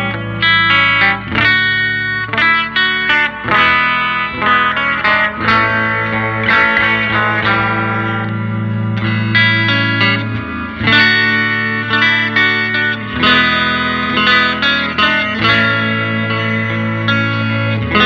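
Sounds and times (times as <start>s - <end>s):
electric guitar chords ringing: 0.0s - 18.0s.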